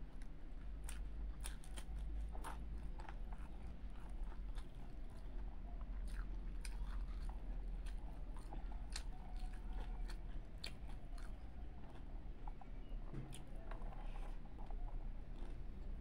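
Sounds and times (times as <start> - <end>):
chewing rice: 0.0 - 16.0
steady low hum: 0.0 - 16.0.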